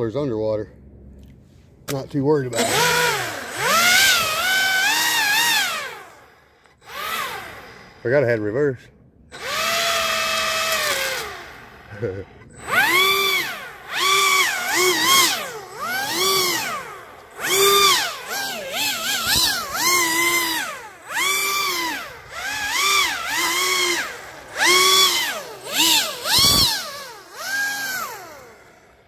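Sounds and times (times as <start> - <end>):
fan boat motor whining: 1.9 - 29.0.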